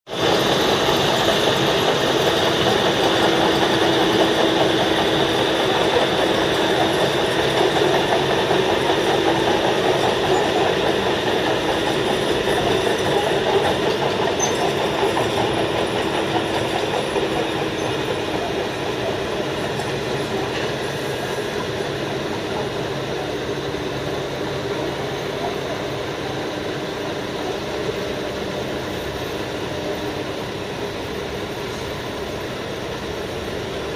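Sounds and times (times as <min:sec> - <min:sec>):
road-repaving machinery running: 0:00.1 - 0:33.9.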